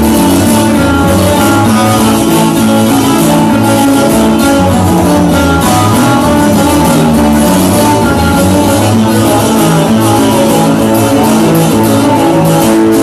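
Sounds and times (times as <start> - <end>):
guitar instrumental music: 0.0 - 13.0.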